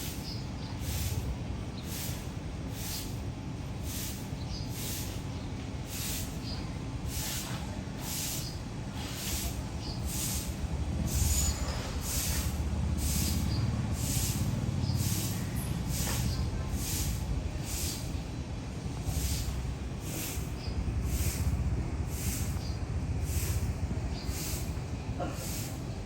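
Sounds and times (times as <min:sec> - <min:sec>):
nestling birds hissing: 0:00.0 - 0:26.0
steady low rumble: 0:00.0 - 0:26.0.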